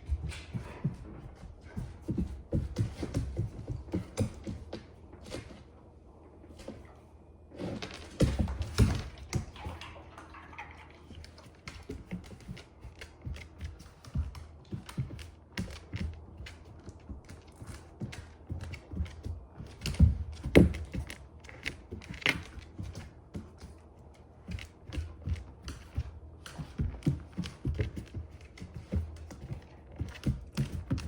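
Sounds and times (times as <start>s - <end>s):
dog claws clicking on floor: 0.0s - 5.6s, 7.6s - 9.8s, 11.0s - 31.0s.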